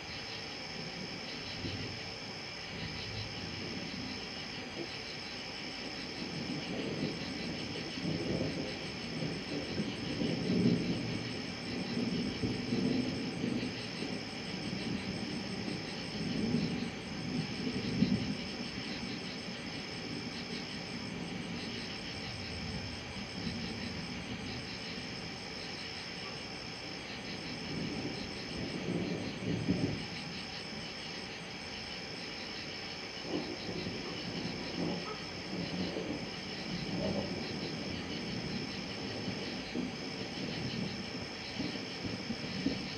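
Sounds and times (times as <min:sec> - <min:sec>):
thunder rumbling: 0:00.8 - 0:42.9.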